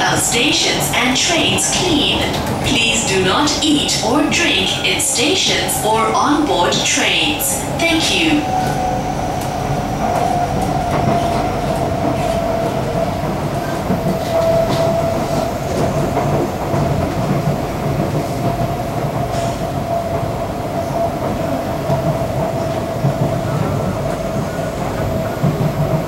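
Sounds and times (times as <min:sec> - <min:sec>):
steady train whine: 0:00.0 - 0:26.0
train running rumble: 0:00.0 - 0:26.0.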